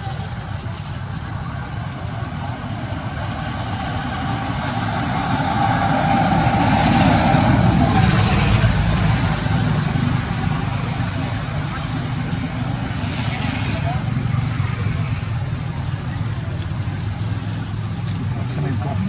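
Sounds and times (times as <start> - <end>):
vehicle engine and tyre rumble: 0.0 - 19.0.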